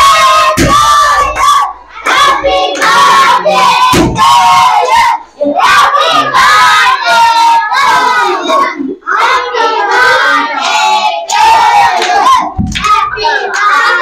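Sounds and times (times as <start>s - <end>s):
children singing and shouting: 0.0s - 14.0s.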